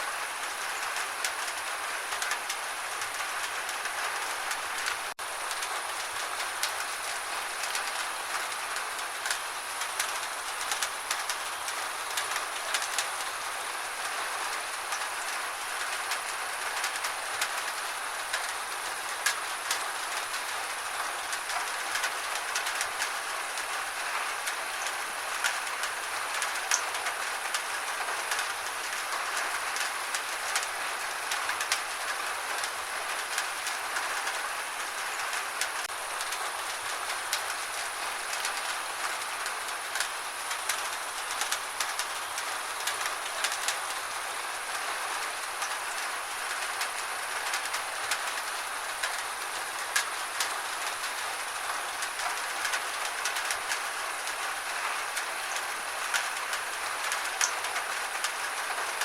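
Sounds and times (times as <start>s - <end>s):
gentle rain falling: 0.0s - 59.0s.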